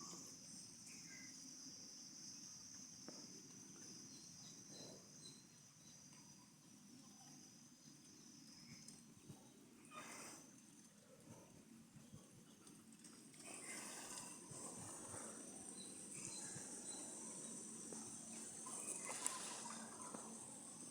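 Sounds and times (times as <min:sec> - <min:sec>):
low background hum: 0:00.0 - 0:20.9.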